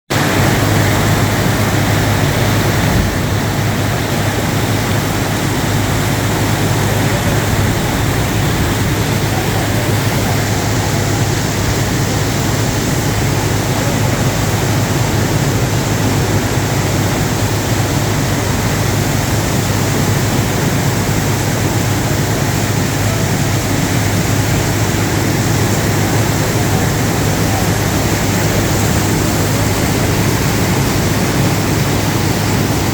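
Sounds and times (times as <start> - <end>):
heavy rain pouring: 0.1 - 32.9
deep rumble: 0.3 - 32.9.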